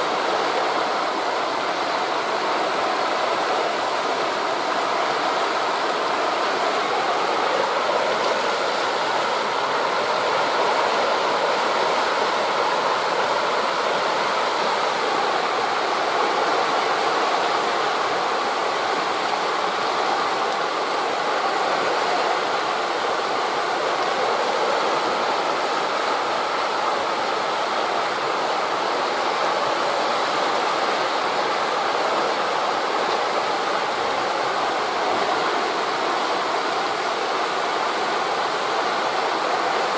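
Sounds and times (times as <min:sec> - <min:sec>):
sea waves on beach: 0:00.0 - 0:39.9
wind through leaves: 0:00.0 - 0:39.9.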